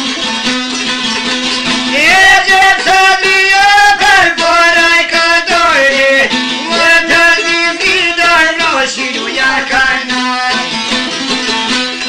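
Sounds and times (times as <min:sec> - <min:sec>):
plucked lute: 0:00.0 - 0:12.0
man singing folk song: 0:01.6 - 0:12.0.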